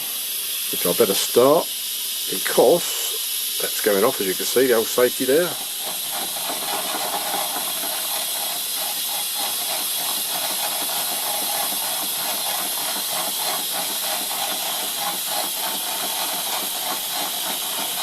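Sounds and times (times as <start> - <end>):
steam safety valve hissing: 0.0 - 18.0.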